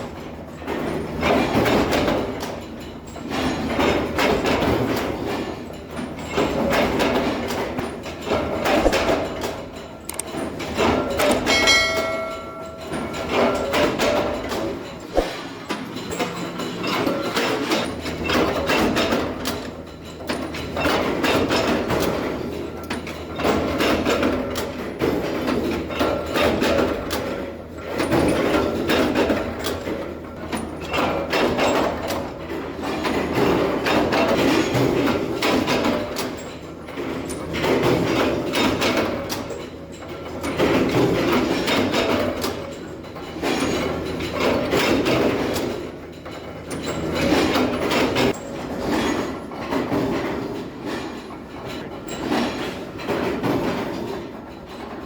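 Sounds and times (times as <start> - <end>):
factory machinery clattering: 0.0 - 55.0.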